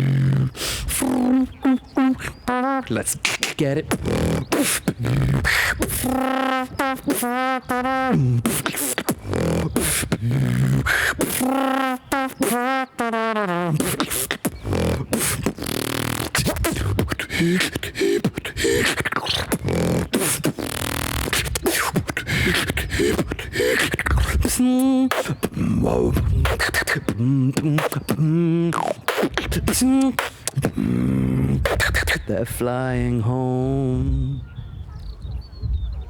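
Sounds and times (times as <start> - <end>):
person beatboxing: 0.0 - 34.4.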